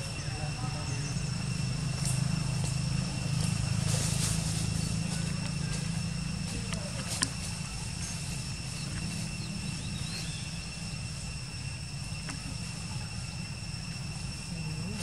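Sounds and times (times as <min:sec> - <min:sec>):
high insect tones: 0:00.0 - 0:15.0.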